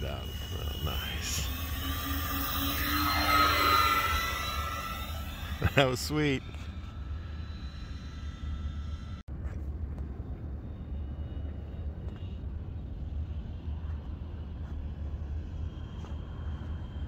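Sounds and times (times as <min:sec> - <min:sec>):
model plane motor whine: 0:00.0 - 0:09.2, 0:10.3 - 0:17.0
low rumble: 0:00.0 - 0:17.0.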